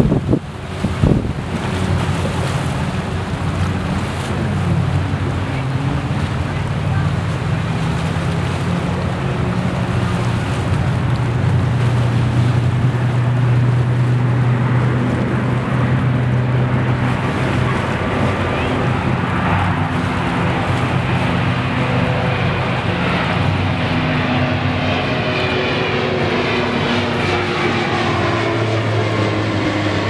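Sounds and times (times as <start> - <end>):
propeller airplane drone: 0.0 - 30.0
waves lapping: 0.0 - 30.0
wind buffeting microphone: 0.0 - 30.0.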